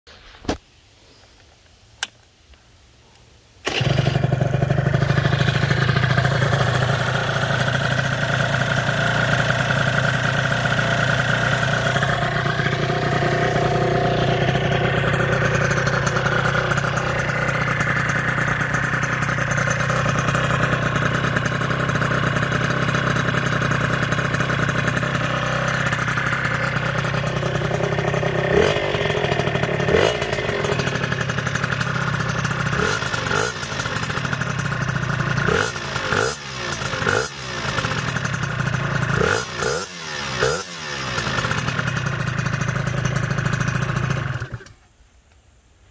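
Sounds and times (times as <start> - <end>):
scooter engine revving: 3.6 - 44.7
scooter engine idling: 3.6 - 44.8.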